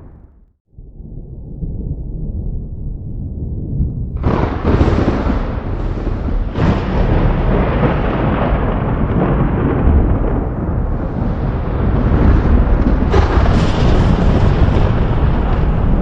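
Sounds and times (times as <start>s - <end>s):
thunder rumbling and cracking: 0.0s - 16.0s.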